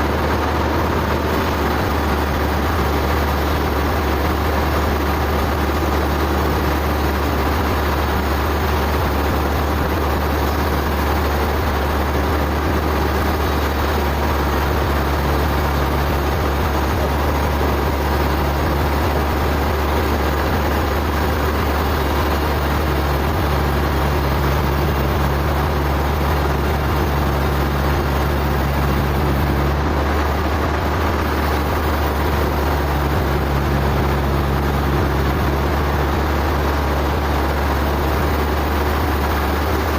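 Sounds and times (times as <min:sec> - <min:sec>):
deep hum: 0:00.0 - 0:39.9
sawmill machinery running: 0:00.0 - 0:39.9.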